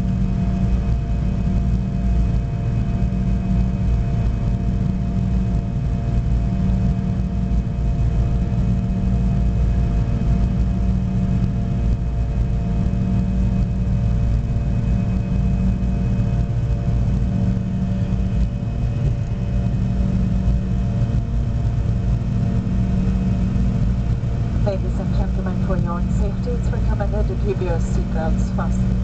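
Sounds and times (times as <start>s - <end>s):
jet engine drone: 0.0s - 29.0s.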